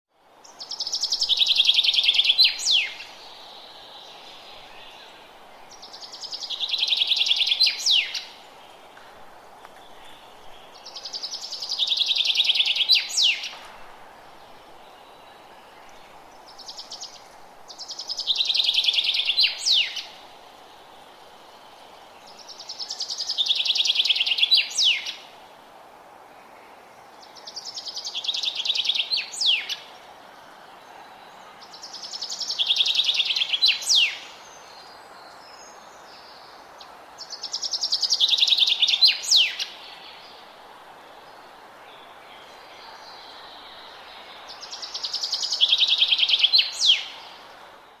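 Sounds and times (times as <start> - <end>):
low background hiss: 0.1 - 48.0
songbird trilling song: 0.4 - 8.5, 9.6 - 13.6, 14.4 - 20.2, 22.2 - 25.3, 27.2 - 29.9, 30.9 - 40.6, 41.2 - 48.0.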